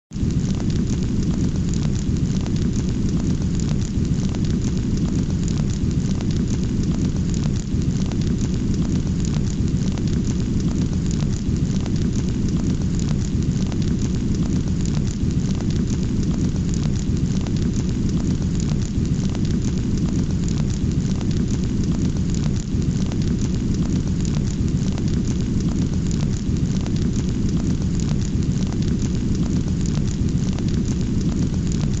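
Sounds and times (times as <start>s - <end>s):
fire roaring and crackling: 0.2s - 32.0s.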